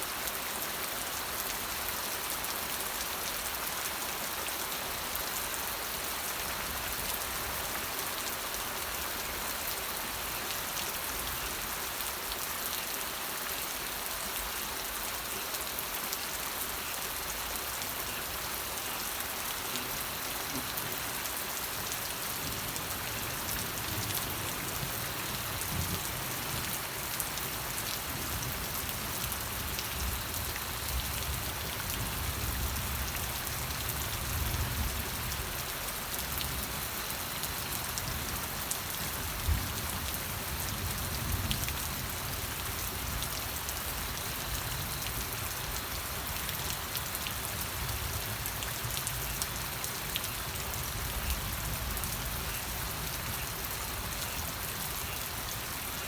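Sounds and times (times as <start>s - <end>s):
raindrops striking a surface: 0.0s - 56.0s
steady rain hiss: 0.0s - 56.0s.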